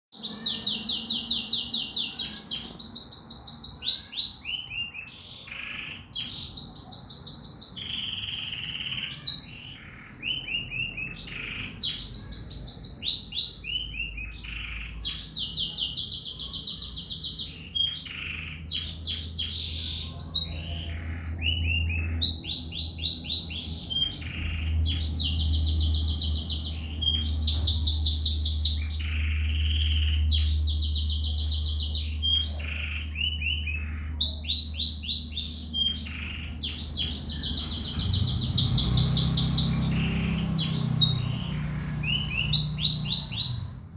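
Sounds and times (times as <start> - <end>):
canary singing trills: 0.1 - 43.9.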